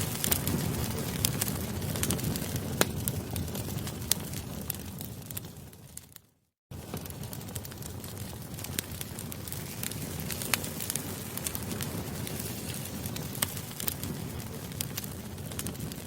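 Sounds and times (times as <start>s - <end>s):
campfire rushing: 0.0s - 16.0s
wood crackling and popping: 0.0s - 16.0s.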